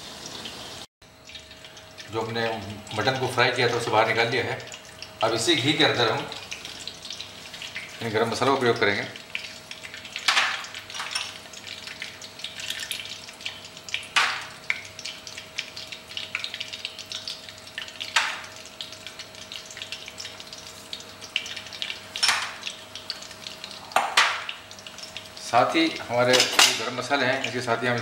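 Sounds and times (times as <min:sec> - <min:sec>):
spices sizzling in hot oil: 0:00.0 - 0:28.0.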